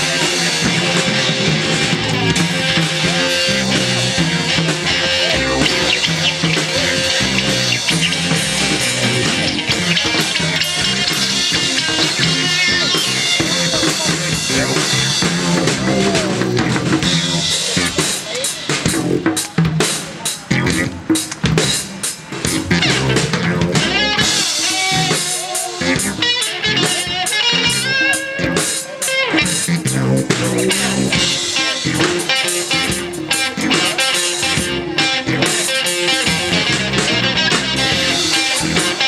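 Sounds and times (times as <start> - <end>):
drum kit: 0.0 - 39.0
electric guitars: 0.0 - 39.0.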